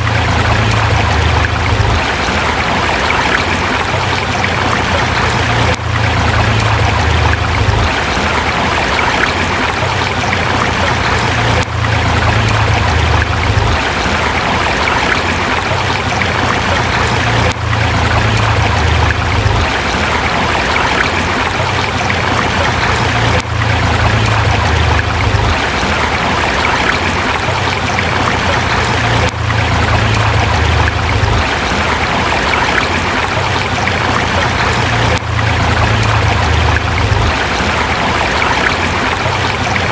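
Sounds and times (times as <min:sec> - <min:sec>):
deep water rumble: 0:00.0 - 0:39.9
river rushing over rocks: 0:00.0 - 0:39.9.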